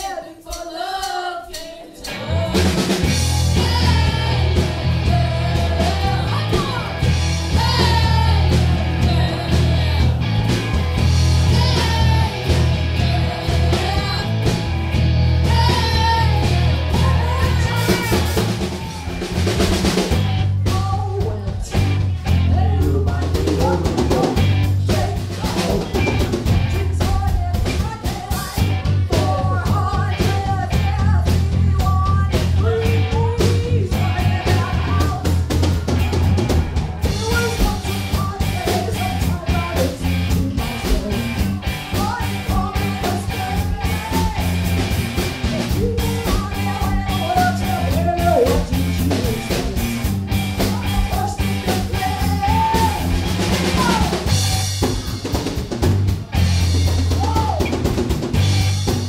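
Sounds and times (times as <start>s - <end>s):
live rock band with singing: 0.0s - 59.0s.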